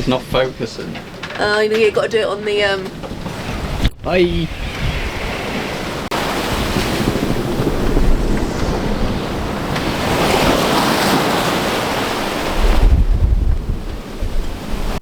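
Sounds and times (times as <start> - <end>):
wind buffeting microphone: 0.0 - 15.0
waves rushing along hull: 2.8 - 15.0.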